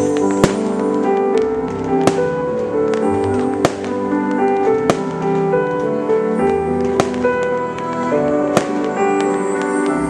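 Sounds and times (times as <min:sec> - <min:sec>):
firework bangs: 0:00.0 - 0:09.9
fireworks show music over loudspeakers: 0:00.0 - 0:10.0
small firework pops: 0:00.0 - 0:10.0.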